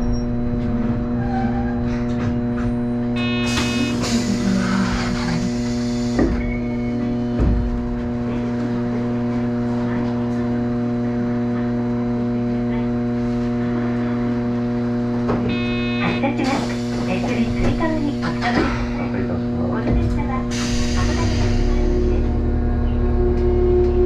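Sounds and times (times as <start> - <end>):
tram electrical hum: 0.0 - 24.0.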